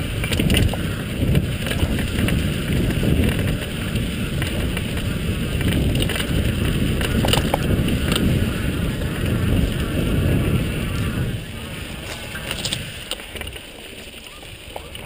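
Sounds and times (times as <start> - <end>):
bike clicks and rattles: 0.0 - 15.0
tyres rolling on dirt trail: 0.0 - 15.0
wind buffeting microphone: 0.0 - 15.0.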